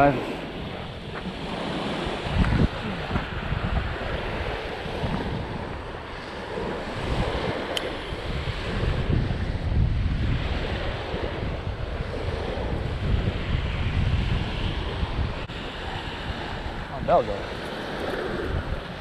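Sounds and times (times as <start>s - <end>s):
small waves washing onto shore: 0.0s - 19.0s
wind buffeting microphone: 0.0s - 19.0s.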